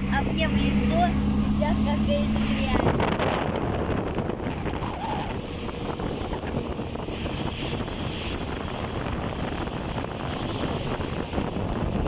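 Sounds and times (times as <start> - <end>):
steady low rumble: 0.0 - 12.0
wind buffeting microphone: 0.0 - 12.0.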